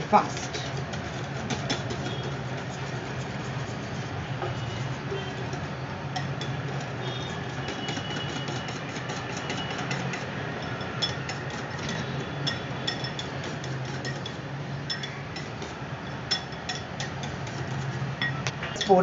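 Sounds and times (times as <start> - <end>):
utensil beating batter in bowl: 0.0 - 19.0.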